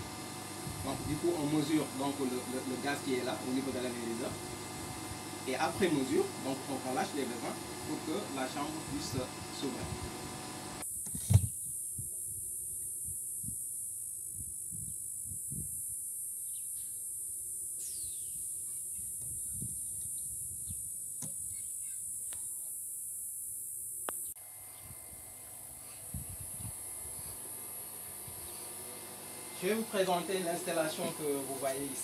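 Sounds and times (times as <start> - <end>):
steady high hiss: 0.0 - 25.0, 25.6 - 32.0.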